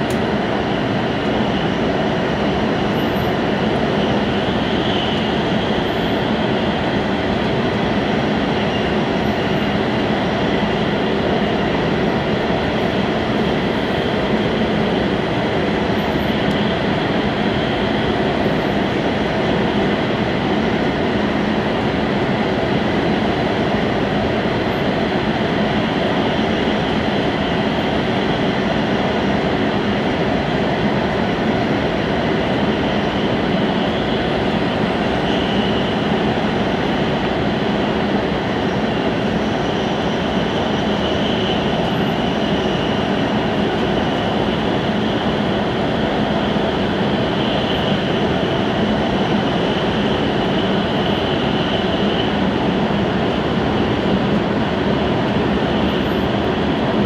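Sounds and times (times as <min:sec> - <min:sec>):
train running at speed: 0:00.0 - 0:57.0.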